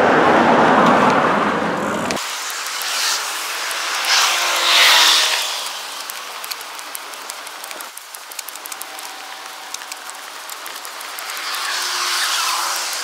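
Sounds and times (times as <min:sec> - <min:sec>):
faint scattered clicks: 0:02.1 - 0:13.0.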